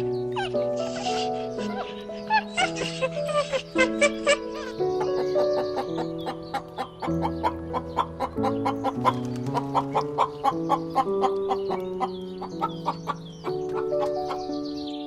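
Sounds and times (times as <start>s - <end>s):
background music with held notes: 0.0s - 15.0s
chickens clucking: 0.0s - 15.0s.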